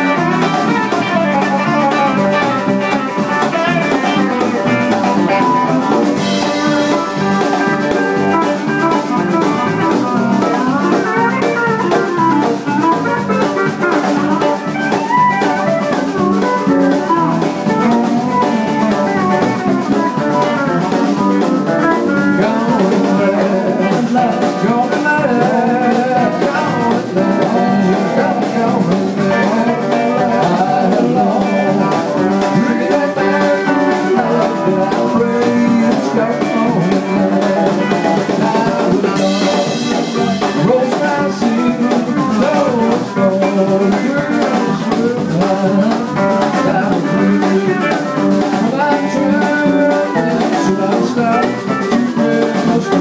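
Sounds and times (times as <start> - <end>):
drum kit: 0.0 - 53.0
electric guitar lead: 0.0 - 53.0.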